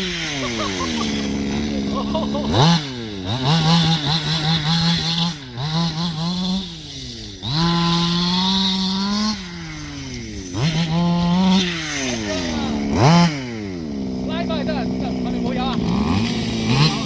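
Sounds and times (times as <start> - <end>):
small engine revving: 0.0 - 17.0.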